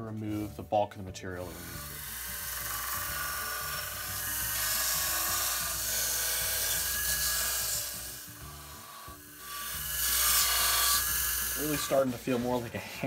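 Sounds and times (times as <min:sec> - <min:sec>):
belt sander rasping wood: 0:01.4 - 0:13.0.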